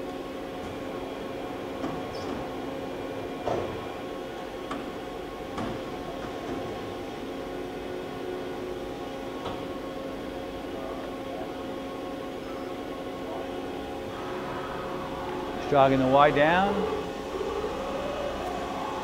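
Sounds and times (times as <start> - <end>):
machine hum with fixed tones: 0.0 - 19.0.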